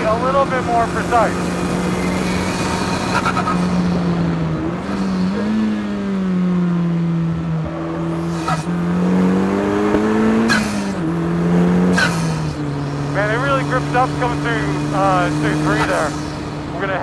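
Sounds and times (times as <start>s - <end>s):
car engine running hard: 0.0s - 17.0s.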